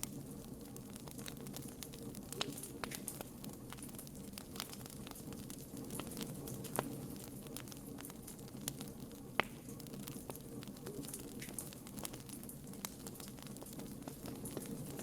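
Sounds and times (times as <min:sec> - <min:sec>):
low rumble of burning: 0:00.0 - 0:15.0
sharp fire pops: 0:00.0 - 0:15.0
wood fire crackling: 0:00.0 - 0:15.0.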